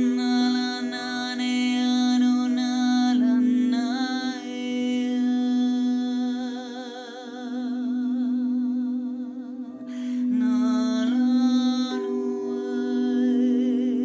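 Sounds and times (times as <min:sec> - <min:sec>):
crystal singing bowls ringing: 0:00.0 - 0:14.0.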